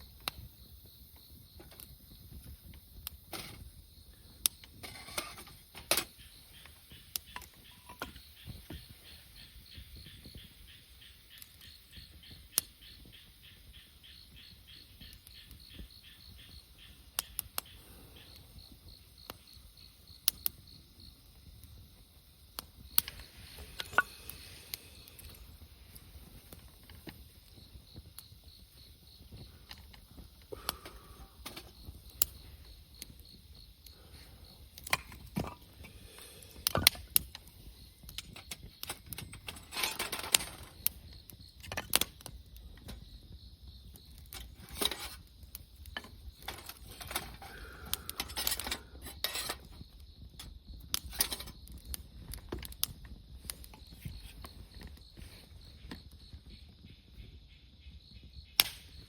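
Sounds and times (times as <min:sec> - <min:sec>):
campfire crackling: 0:00.0 - 0:59.0
crickets chirping: 0:00.0 - 0:59.0.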